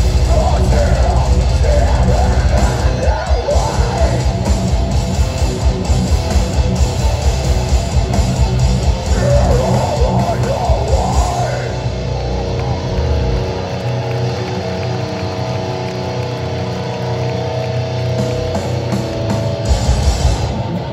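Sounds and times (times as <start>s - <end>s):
heavy distorted guitars: 0.0s - 20.9s.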